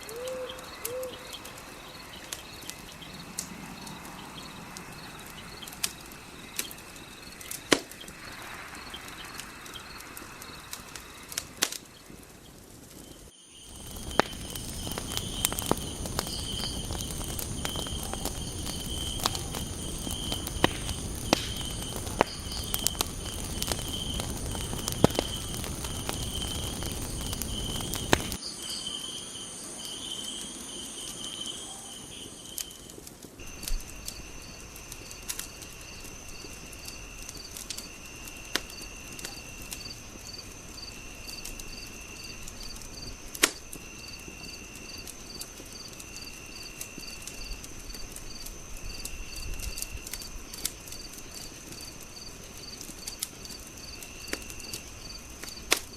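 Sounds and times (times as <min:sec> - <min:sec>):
crickets chirping: 0:00.0 - 0:55.9
fire crackling and popping: 0:00.1 - 0:28.6, 0:30.0 - 0:55.9.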